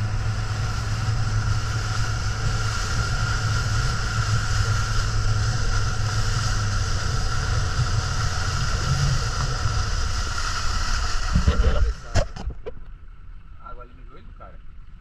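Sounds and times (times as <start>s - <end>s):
motorboat engine drone: 0.0s - 15.0s
water rushing past hull: 0.0s - 15.0s.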